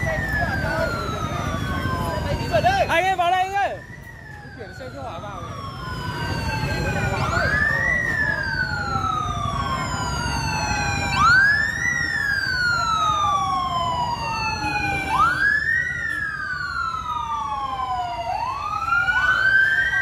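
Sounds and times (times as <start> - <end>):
emergency sirens wailing: 0.0 - 20.0.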